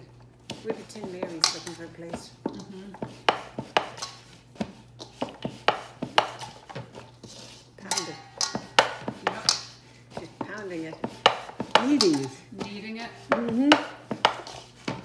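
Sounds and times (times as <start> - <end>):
dough knocking against metal bowl: 0.9 - 7.0, 7.8 - 15.0.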